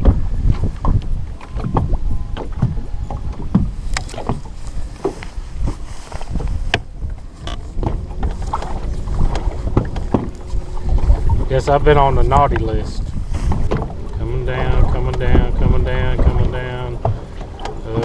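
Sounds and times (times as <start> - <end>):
water lapping against boat hull: 0.0 - 18.0
wind rumble on microphone: 0.0 - 18.0.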